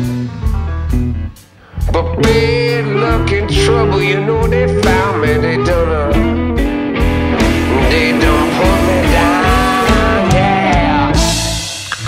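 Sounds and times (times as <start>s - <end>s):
bass: 0.0s - 12.0s
drums: 0.0s - 12.0s
electric guitar lead: 0.0s - 12.0s.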